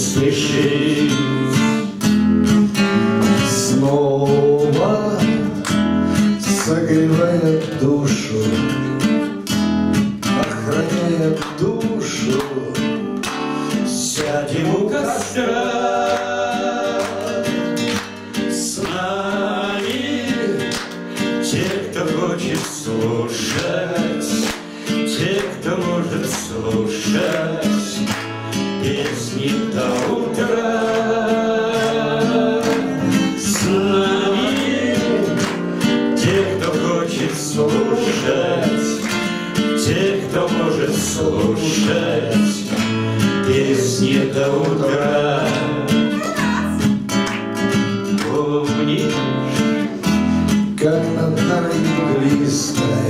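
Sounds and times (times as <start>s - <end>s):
men singing together: 0.0s - 1.9s, 3.2s - 5.6s, 6.4s - 8.8s, 10.4s - 13.0s, 13.6s - 46.5s, 48.0s - 53.0s
strummed acoustic guitar: 0.0s - 53.0s.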